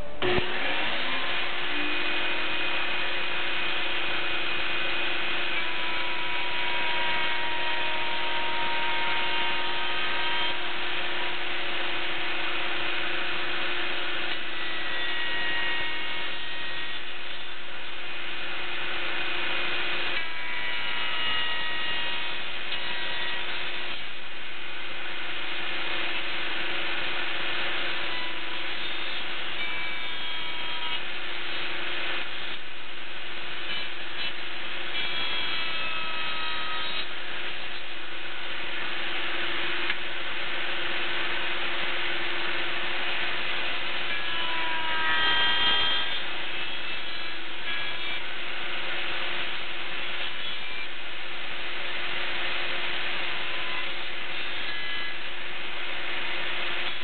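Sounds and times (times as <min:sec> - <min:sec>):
power tool cutting: 0:00.0 - 0:57.0.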